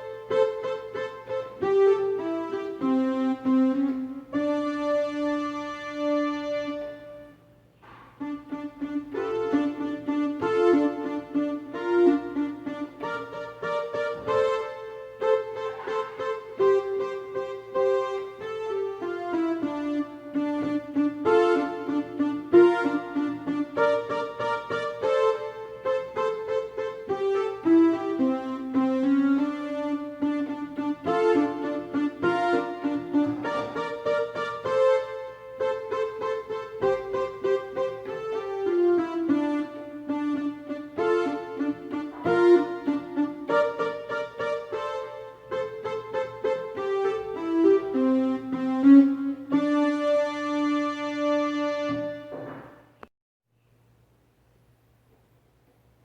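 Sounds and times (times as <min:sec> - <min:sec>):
electronic keyboard melody: 0:00.0 - 0:53.0.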